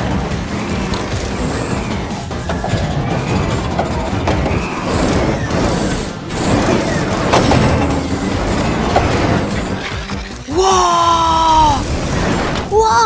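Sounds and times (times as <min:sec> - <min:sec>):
background music: 0:00.0 - 0:13.0
truck engine and machinery: 0:00.0 - 0:13.0.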